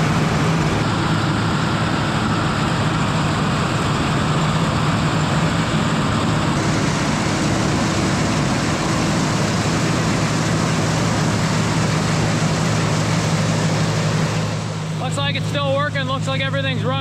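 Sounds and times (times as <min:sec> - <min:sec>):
corn picker machinery noise: 0:00.0 - 0:17.0
tractor engine drone: 0:00.0 - 0:17.0.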